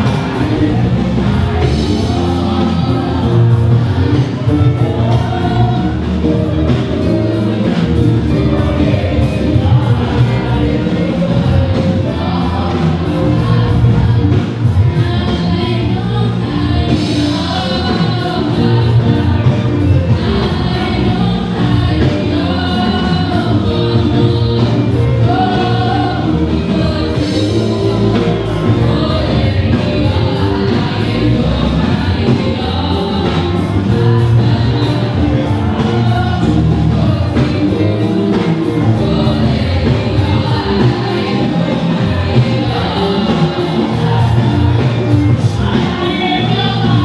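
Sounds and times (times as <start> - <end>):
choir singing gospel: 0.0 - 47.0
instrumental accompaniment with beat: 0.0 - 47.0.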